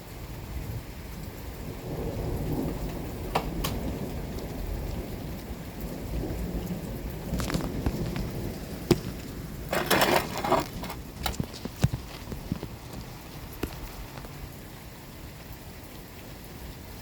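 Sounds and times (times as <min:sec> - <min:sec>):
steady rain: 0:00.0 - 0:17.0
thunder rumbling: 0:00.2 - 0:15.5
raindrops tapping: 0:01.0 - 0:15.8.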